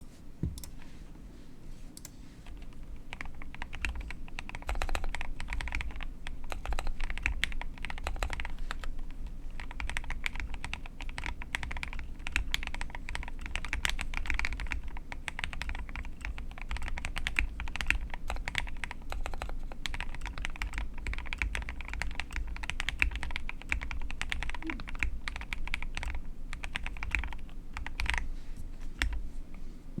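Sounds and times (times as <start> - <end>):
mechanical keyboard typing: 2.0 - 28.2.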